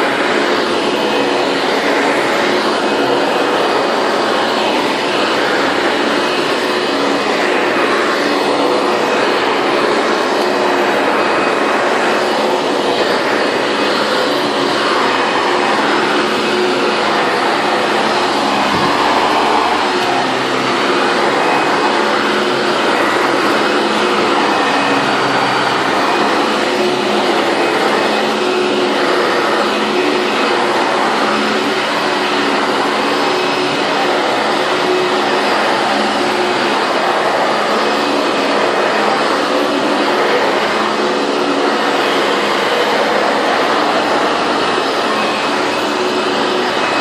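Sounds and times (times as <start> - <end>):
vacuum cleaner running on carpet: 0.0 - 47.0.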